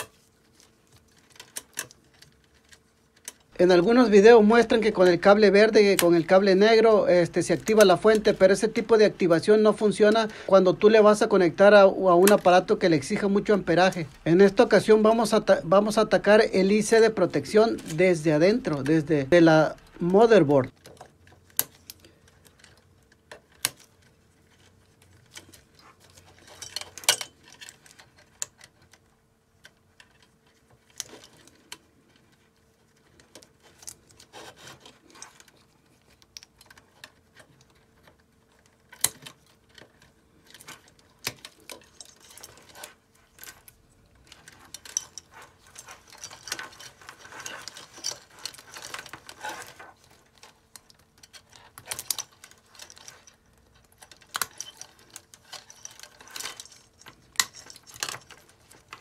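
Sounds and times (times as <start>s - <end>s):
gloved hands rustling wires: 0.0s - 59.0s.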